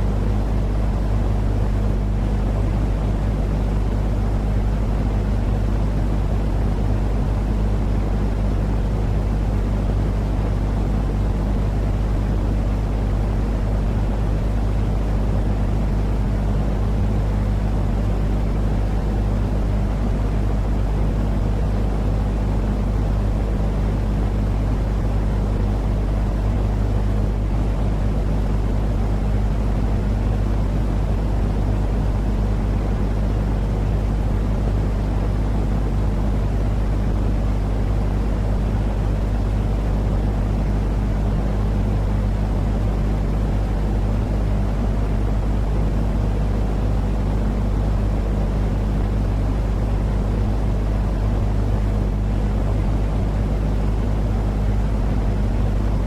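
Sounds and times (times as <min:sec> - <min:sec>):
constant low hum: 0:00.0 - 0:56.0
steady low rumbling noise: 0:00.0 - 0:56.0.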